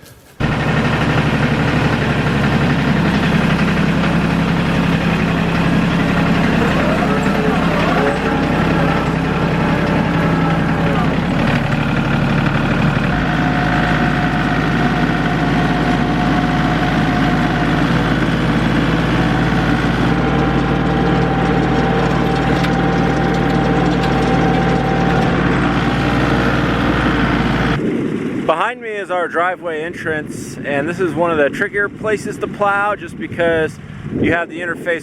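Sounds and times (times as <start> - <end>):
tractor engine running: 0.3 - 28.4.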